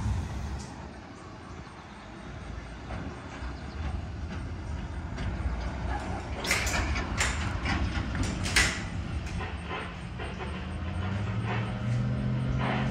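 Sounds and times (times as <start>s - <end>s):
distant diesel locomotive rumble: 0.0s - 12.9s.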